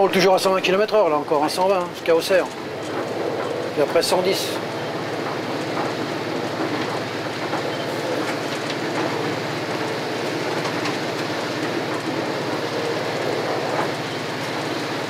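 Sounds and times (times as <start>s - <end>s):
train running noise: 0.0s - 15.0s
wheels clicking on track: 0.0s - 15.0s.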